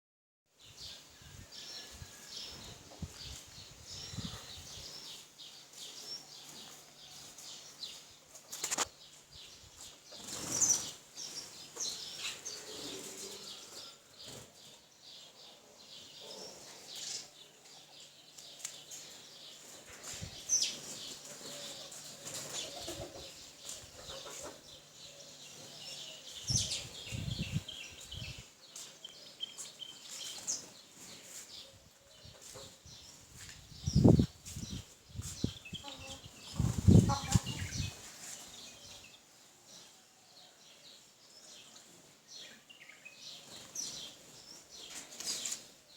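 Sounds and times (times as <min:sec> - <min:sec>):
birds chirping: 0:01.7 - 0:45.9.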